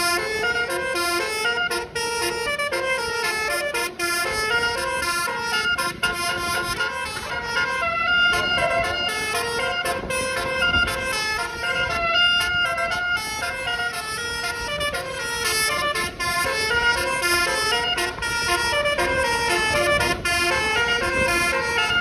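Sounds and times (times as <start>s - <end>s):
musical bus air horn: 0.0s - 22.0s.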